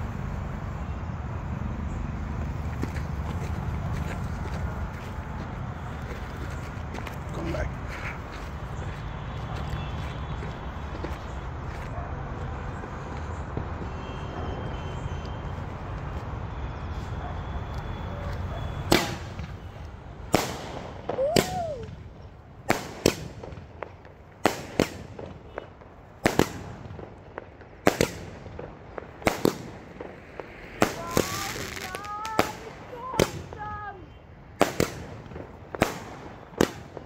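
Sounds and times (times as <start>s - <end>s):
firework bangs: 2.4s - 15.7s, 18.2s - 37.0s.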